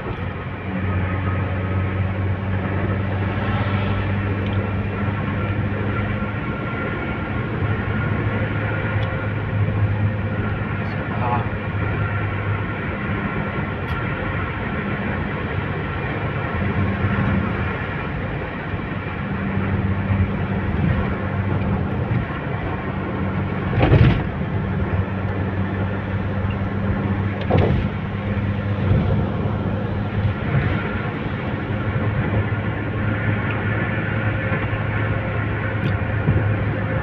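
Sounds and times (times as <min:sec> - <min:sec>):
low engine hum: 0:00.0 - 0:37.0
road and tyre noise: 0:00.0 - 0:37.0.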